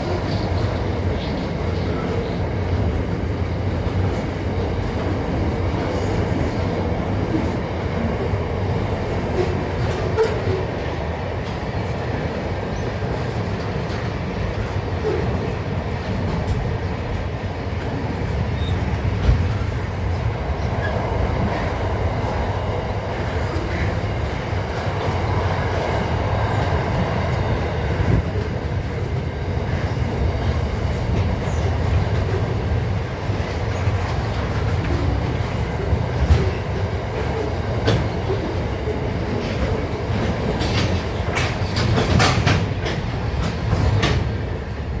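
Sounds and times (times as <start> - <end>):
train rumbling on rails: 0.0 - 45.0.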